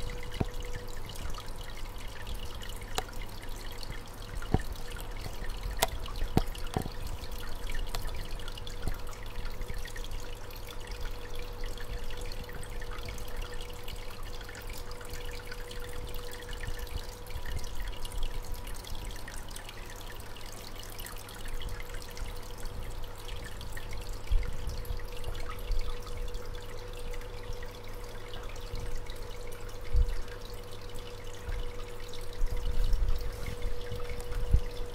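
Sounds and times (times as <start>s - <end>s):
steady hum: 0.0s - 34.9s
water trickling into tank: 0.0s - 34.9s.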